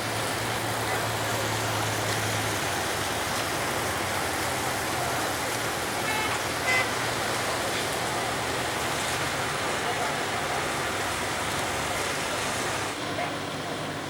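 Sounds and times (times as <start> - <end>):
rushing outdoor background noise: 0.0 - 14.0.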